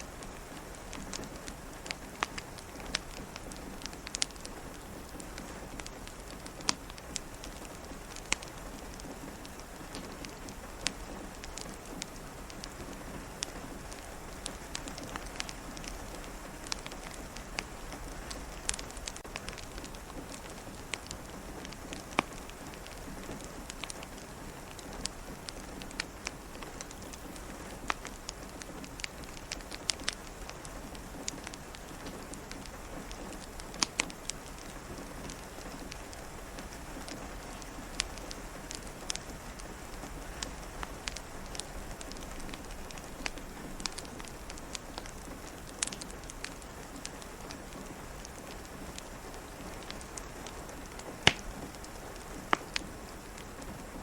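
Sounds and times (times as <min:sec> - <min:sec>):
rain pattering on a window: 0:00.0 - 0:54.0
wood fire crackling: 0:00.0 - 0:54.0.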